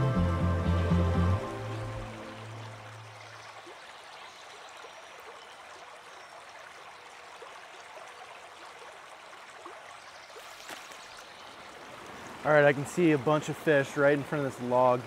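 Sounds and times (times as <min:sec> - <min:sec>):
stream running over gravel: 0:01.4 - 0:15.0.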